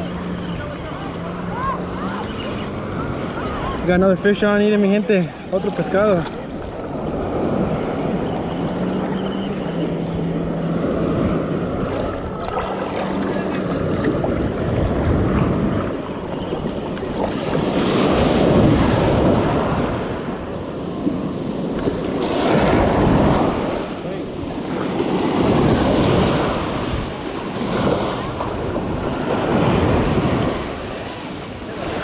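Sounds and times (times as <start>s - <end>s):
waves breaking in shallow surf: 0.0s - 32.0s
wind buffeting microphone: 5.4s - 32.0s.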